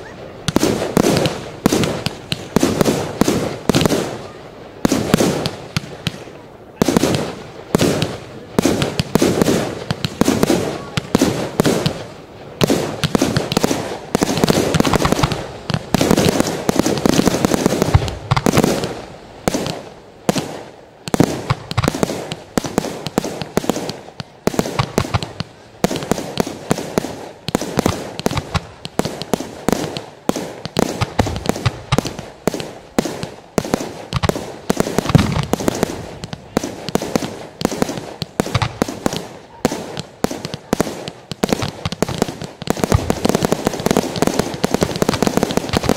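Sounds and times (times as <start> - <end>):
fireworks bangs and crackle: 0.0 - 45.9.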